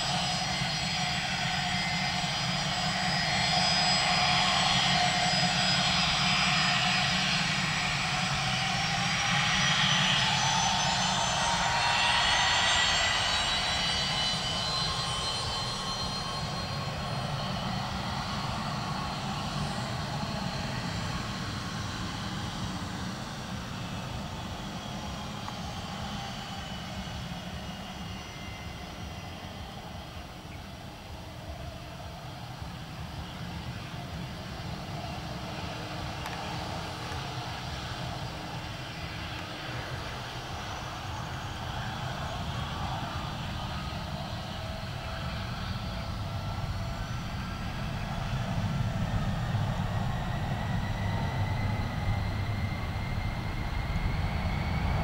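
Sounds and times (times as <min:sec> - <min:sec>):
jet airliner taxiing: 0:00.0 - 0:55.0.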